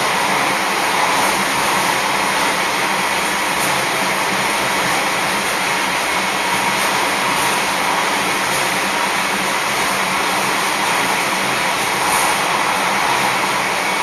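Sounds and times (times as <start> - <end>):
railcar roaring through tunnel: 0.0 - 14.0.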